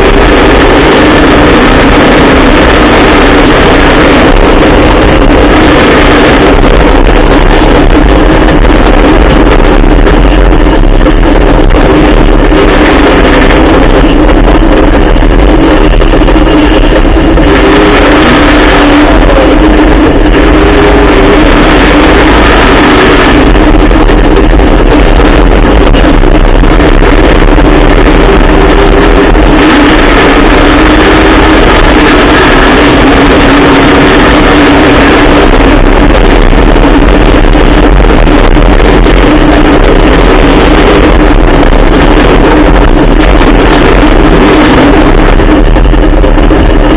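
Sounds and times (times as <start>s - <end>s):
loud truck engine running: 0.0s - 46.9s.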